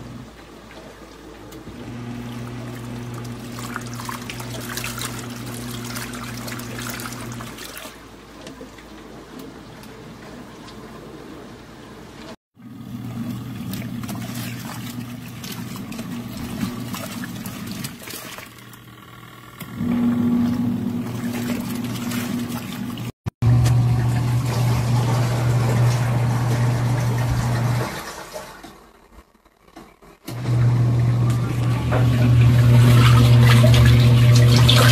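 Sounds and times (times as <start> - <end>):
washing machine motor humming: 0.0 - 34.9
water churning and trickling: 0.2 - 10.8, 12.8 - 18.9, 20.1 - 23.2, 23.9 - 28.9, 31.4 - 34.9.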